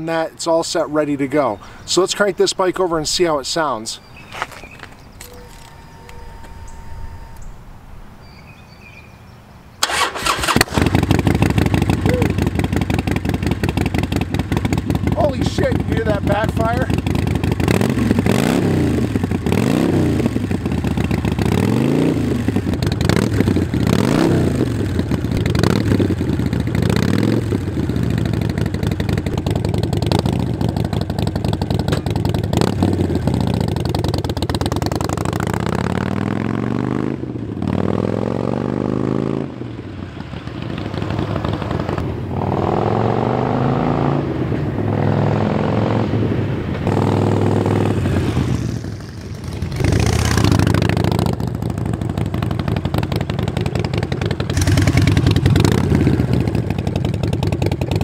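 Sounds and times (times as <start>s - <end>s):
motorcycle engine revving: 9.8s - 58.0s.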